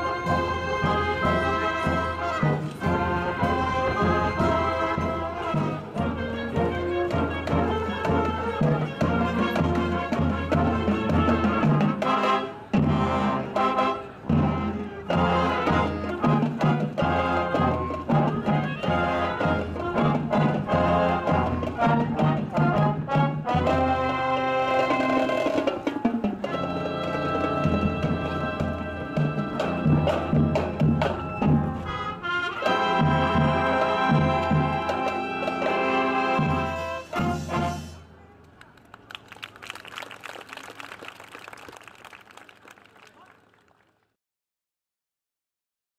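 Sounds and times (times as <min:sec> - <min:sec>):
brass holding chords: 0:00.0 - 0:25.5, 0:26.4 - 0:38.2
marching band playing: 0:00.0 - 0:38.2.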